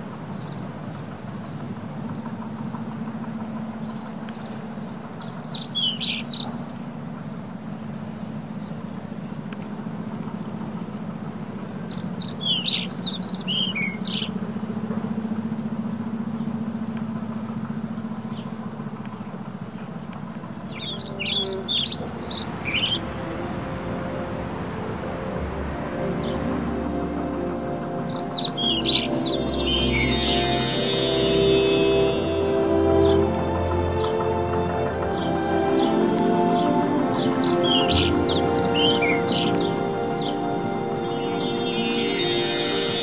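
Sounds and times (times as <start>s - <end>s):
songbird chirping: 0.0s - 43.0s
steady low drone: 6.0s - 43.0s.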